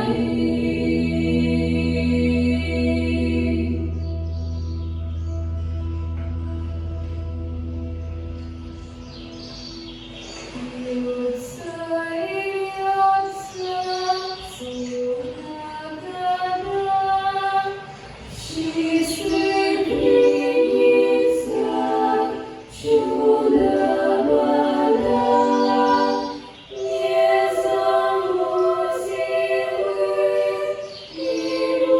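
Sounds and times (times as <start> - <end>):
vocal ensemble singing in harmony: 0.0 - 5.2, 9.0 - 31.9.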